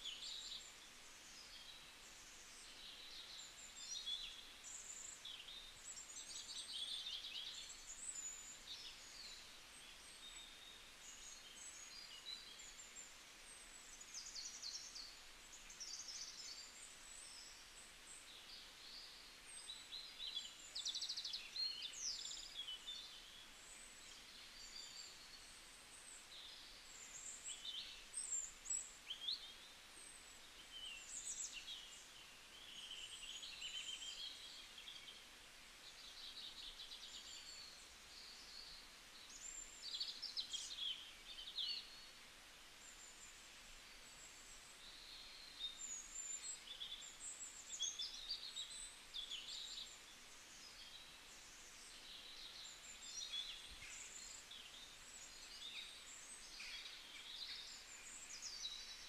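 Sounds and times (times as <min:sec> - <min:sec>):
faint hiss: 0:00.0 - 0:59.0.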